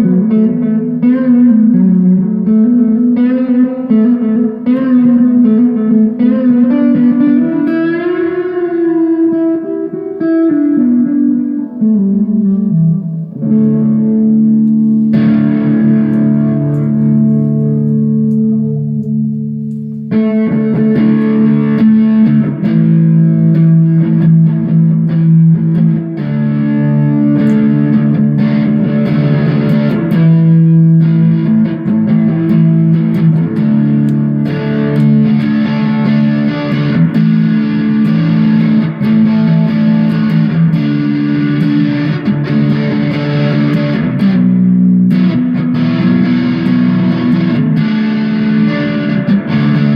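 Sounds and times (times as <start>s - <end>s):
distorted electric guitar: 0.0s - 49.9s.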